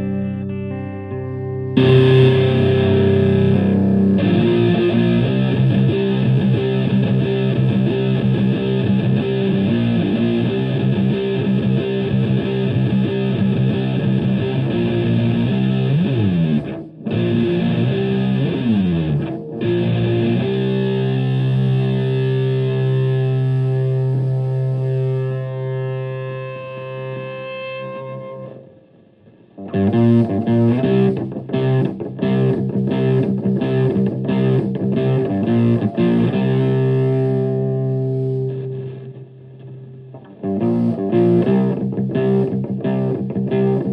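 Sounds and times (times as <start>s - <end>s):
fuzz electric guitar riff: 0.0s - 43.9s.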